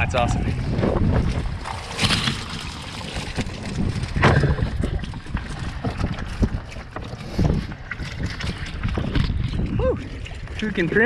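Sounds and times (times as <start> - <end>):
wind rumble on microphone: 0.0 - 11.0
prawns knocking and rustling: 1.0 - 10.7.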